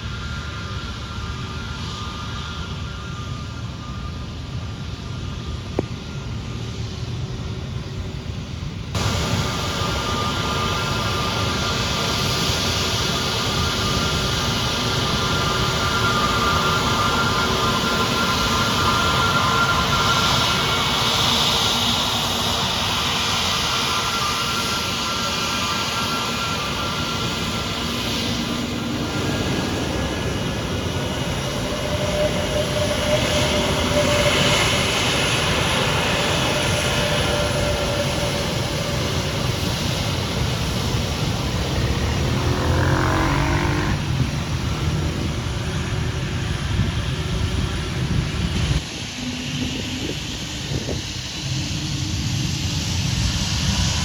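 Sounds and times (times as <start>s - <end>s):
airliner engines whining: 0.0s - 54.0s.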